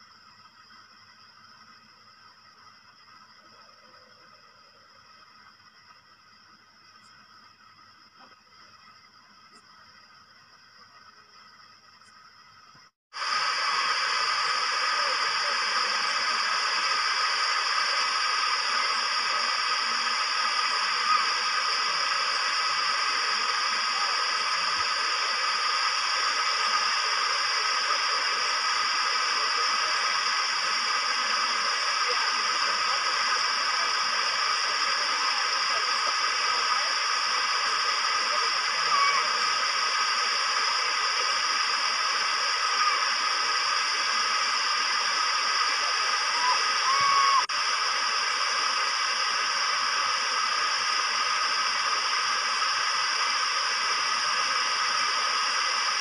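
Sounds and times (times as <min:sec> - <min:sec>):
loud steady hiss: 0:00.0 - 0:56.0.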